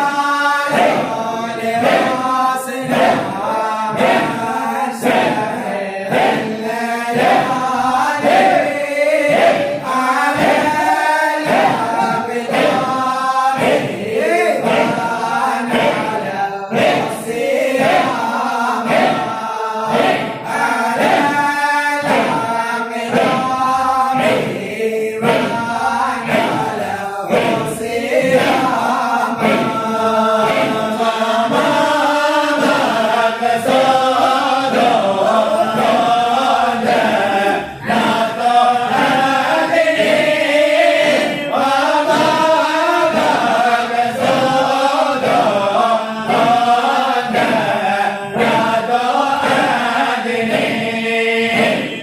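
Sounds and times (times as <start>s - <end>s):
group of voices chanting: 0.0s - 52.0s.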